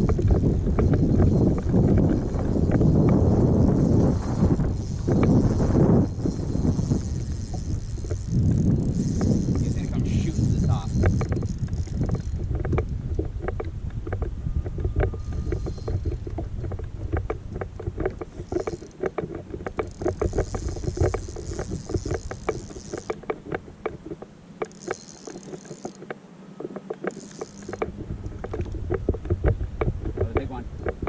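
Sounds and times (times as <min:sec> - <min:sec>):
wind rumble on microphone: 0:00.0 - 0:24.2, 0:27.4 - 0:31.0
water lapping against boat hull: 0:00.0 - 0:31.0.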